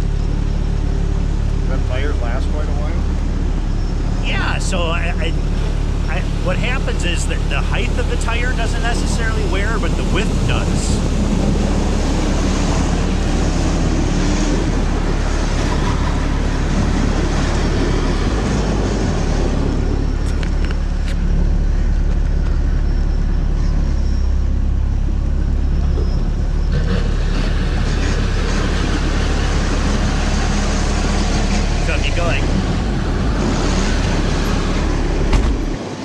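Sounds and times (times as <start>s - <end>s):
vehicle engine drone: 0.0s - 36.0s.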